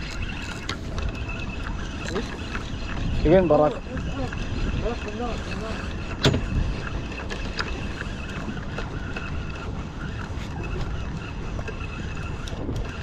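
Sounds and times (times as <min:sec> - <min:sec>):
motorboat running: 0:00.0 - 0:13.0
wind noise on microphone: 0:00.0 - 0:13.0.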